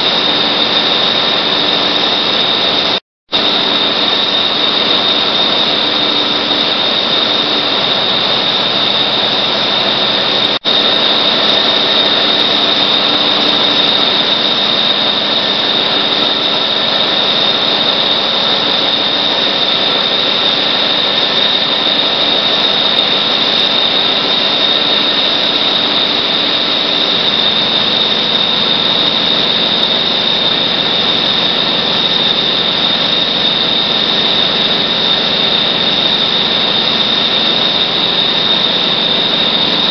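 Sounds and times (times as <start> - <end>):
machinery drone with high whine: 0.0 - 39.9.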